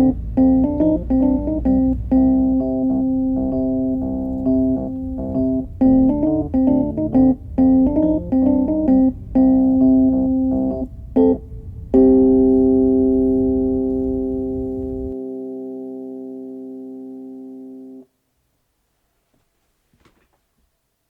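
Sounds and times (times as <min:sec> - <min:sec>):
piano chords: 0:00.0 - 0:18.1.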